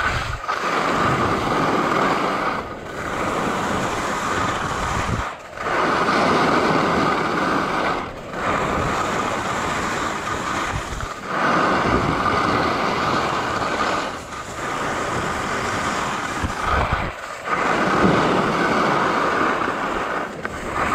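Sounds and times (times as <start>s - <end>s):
skis scraping on snow: 0.0s - 20.9s.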